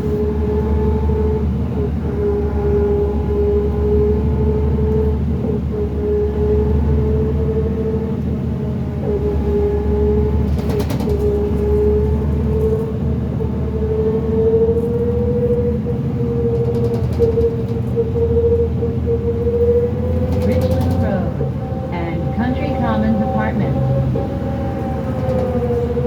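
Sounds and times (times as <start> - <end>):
bus diesel engine under load: 0.0 - 26.0.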